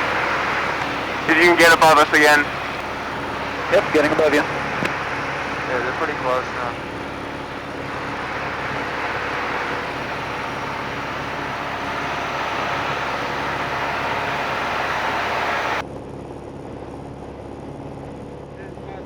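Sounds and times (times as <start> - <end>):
rushing air: 0.0 - 15.8
airplane engine and propeller drone: 0.0 - 19.0.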